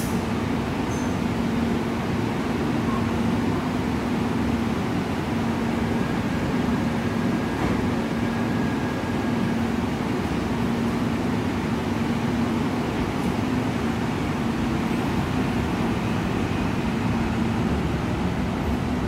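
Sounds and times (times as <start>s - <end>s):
electric train hum and whir: 0.0s - 19.0s.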